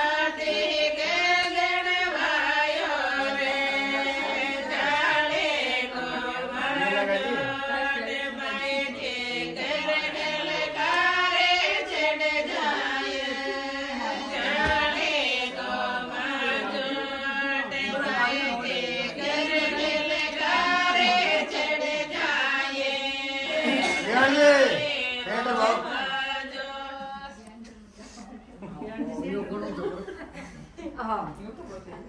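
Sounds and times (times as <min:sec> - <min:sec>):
group chanting devotional song: 0:00.0 - 0:30.2.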